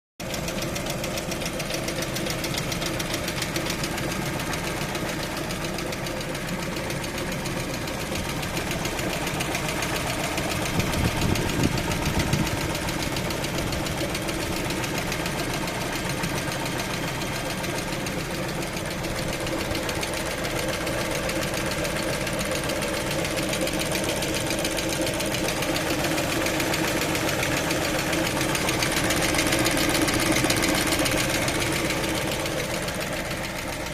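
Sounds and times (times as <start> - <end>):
car engine running with knock: 0.2 - 33.9.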